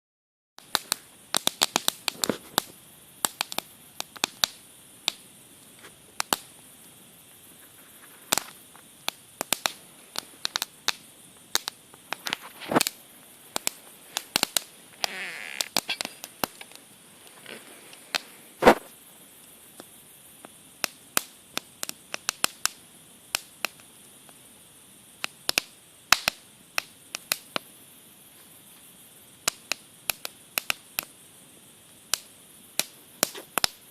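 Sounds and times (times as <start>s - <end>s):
faint steady hiss: 0.6s - 33.9s
wood fire crackling: 0.6s - 33.9s.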